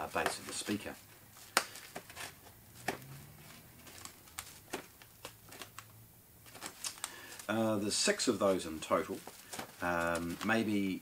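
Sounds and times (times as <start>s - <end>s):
faint rustling: 0.2s - 10.9s.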